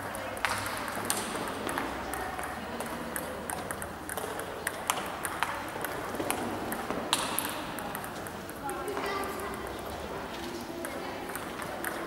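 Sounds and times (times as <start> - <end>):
table tennis balls clicking: 0.0 - 9.6, 10.7 - 12.0.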